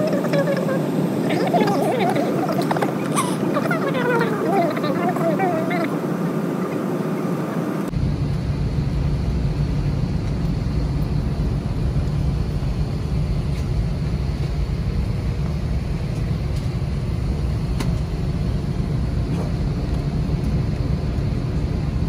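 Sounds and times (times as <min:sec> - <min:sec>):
jet airliner rumble in cabin: 0:00.0 - 0:22.0.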